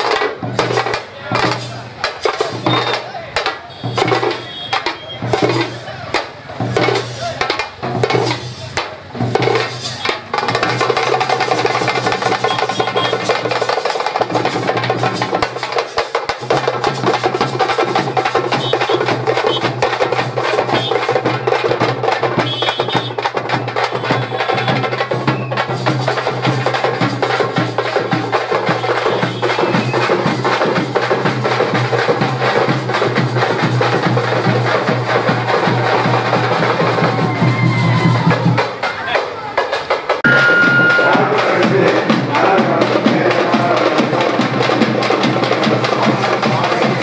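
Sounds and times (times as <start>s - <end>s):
drum troupe playing fast rhythms: 0.0s - 47.0s.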